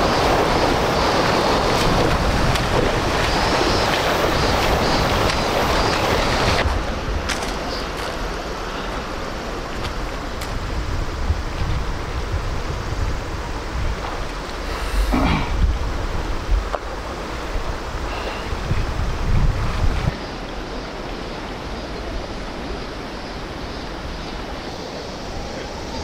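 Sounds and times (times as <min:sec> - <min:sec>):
rushing noise with low rumble: 0:00.0 - 0:26.0.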